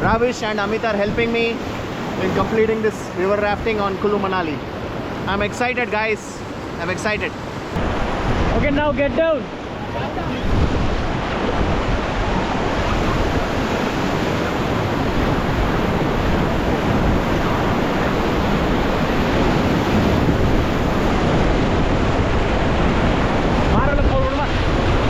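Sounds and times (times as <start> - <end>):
churning whitewater: 0.0 - 25.0
wind buffeting microphone: 4.7 - 25.0.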